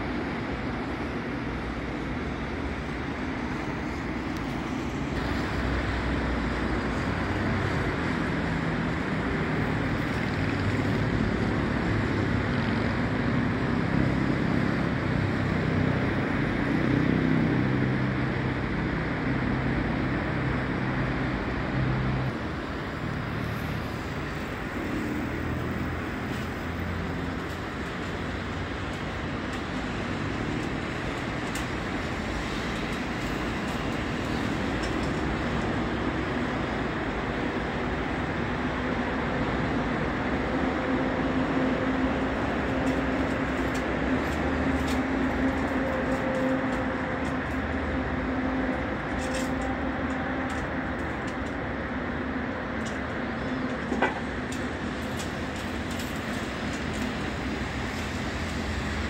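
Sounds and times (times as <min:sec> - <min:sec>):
road traffic: 0:00.0 - 0:59.0.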